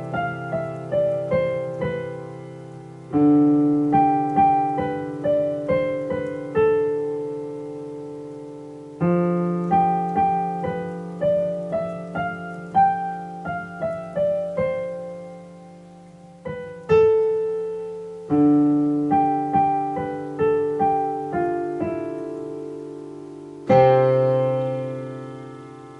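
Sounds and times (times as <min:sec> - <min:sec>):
slow piano melody: 0:00.0 - 0:25.9.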